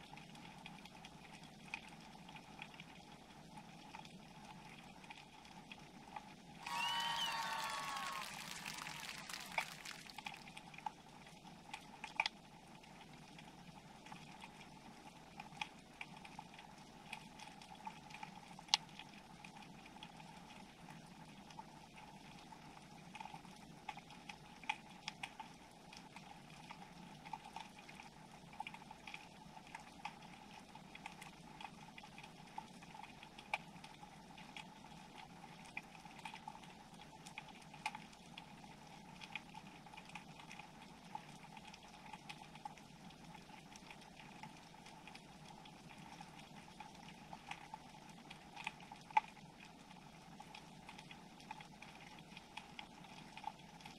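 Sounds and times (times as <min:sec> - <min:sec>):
sharp underwater clicks and crackles: 0:00.0 - 0:06.4, 0:08.4 - 0:53.9
steady low underwater hum: 0:00.0 - 0:06.6, 0:09.4 - 0:53.9.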